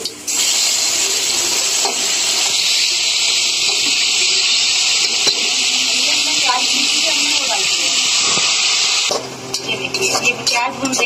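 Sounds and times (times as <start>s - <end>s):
paste sizzling in hot oil: 0.2s - 9.1s.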